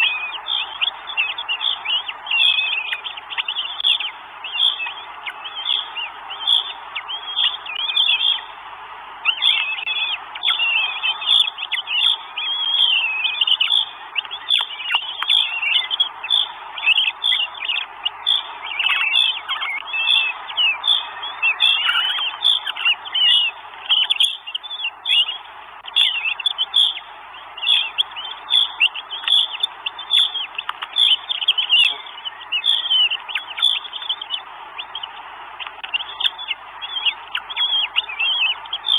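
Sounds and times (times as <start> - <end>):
birds chirping and whistling: 0.0 - 8.6, 9.2 - 38.9.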